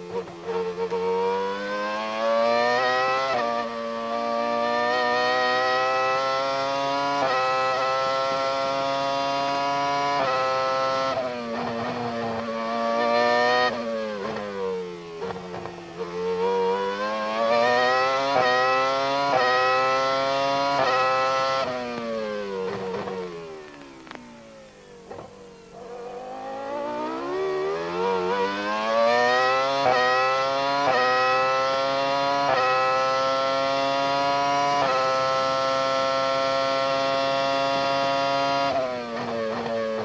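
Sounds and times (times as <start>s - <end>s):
racing car engine revving: 0.2s - 14.6s, 15.2s - 40.0s.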